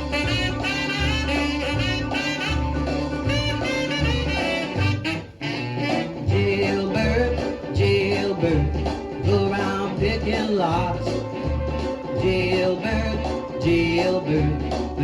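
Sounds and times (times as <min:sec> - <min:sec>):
horn line: 0:00.0 - 0:15.0
repeating bass riff: 0:00.0 - 0:15.0.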